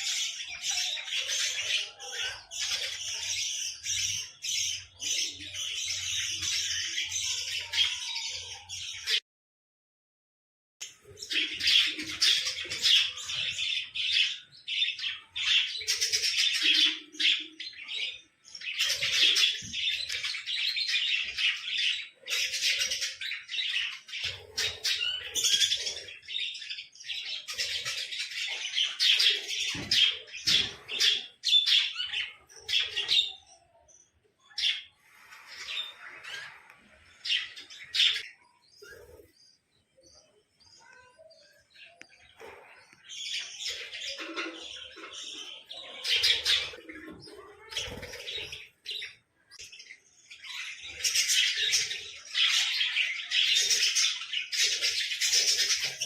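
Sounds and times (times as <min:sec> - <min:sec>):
birds chirping: 0:00.0 - 0:09.2, 0:10.8 - 0:56.0.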